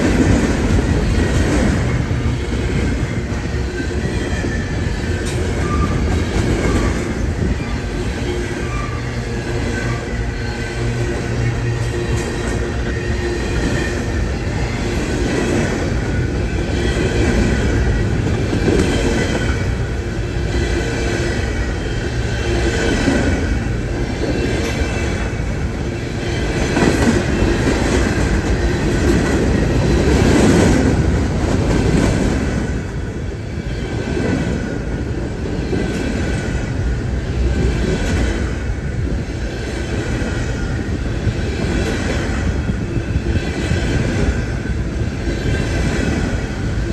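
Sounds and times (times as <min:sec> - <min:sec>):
train rolling on rails: 0:00.0 - 0:46.9.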